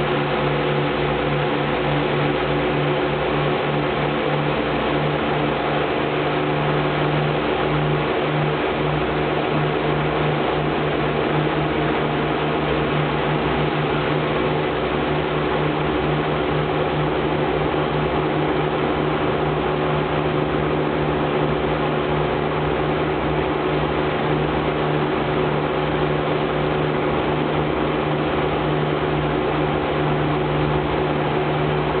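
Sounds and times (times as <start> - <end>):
piston aircraft engines droning: 0.0 - 32.0.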